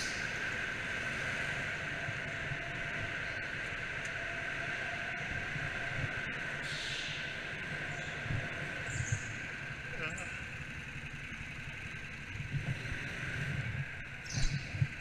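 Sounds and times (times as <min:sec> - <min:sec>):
go-kart engine whine: 0:00.0 - 0:15.0.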